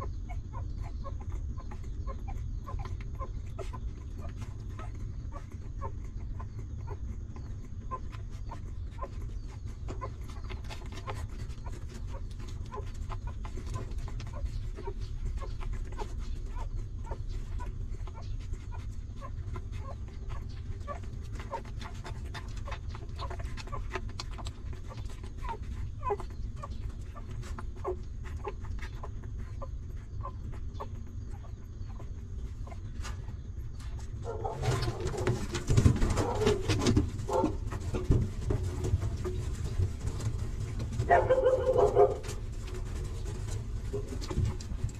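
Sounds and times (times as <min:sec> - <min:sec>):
puppies squeaking faintly: 0:00.0 - 0:44.9
puppies sucking clicks: 0:00.0 - 0:44.9
steady low hum: 0:00.0 - 0:44.9.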